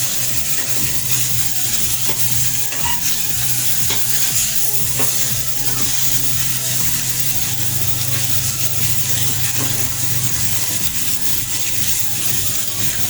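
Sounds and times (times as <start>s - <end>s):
fish sizzling in hot oil: 0.0s - 13.0s
gas flame hum: 0.0s - 13.0s.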